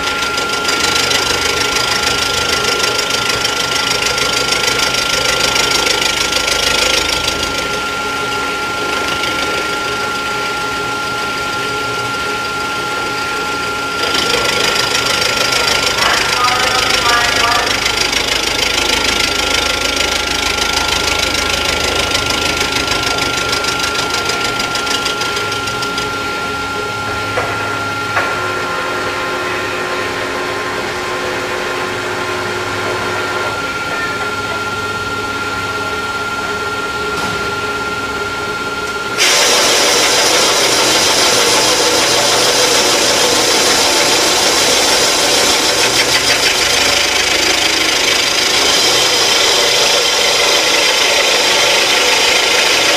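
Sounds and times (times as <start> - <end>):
machining center whining: 0.0 - 52.9.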